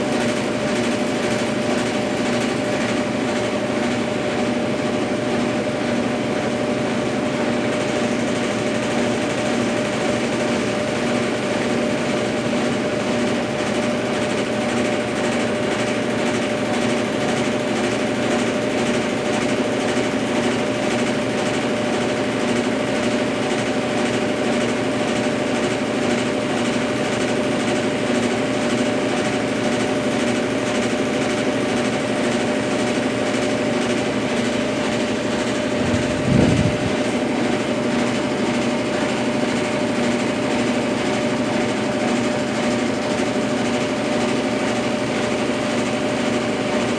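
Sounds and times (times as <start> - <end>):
washing machine motor whine: 0.0 - 46.9.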